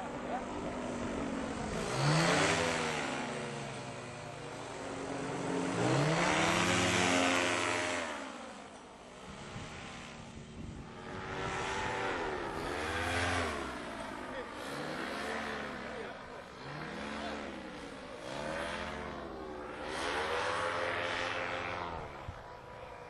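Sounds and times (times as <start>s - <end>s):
paramotor engine and propeller: 0.0s - 23.0s.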